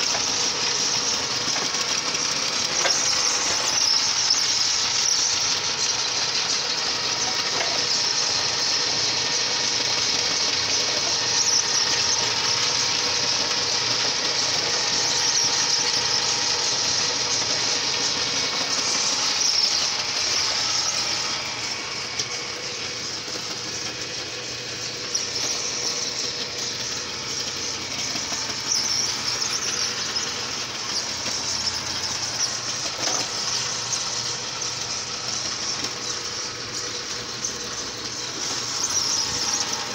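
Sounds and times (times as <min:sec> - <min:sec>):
clay mixer whirring: 0:00.0 - 0:39.9.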